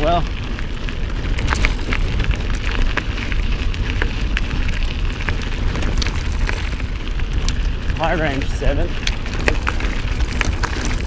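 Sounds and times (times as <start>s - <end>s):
bike rattling: 0.0s - 11.0s
tyres crunching on gravel: 0.0s - 11.0s
wind rumble on microphone: 0.0s - 11.0s.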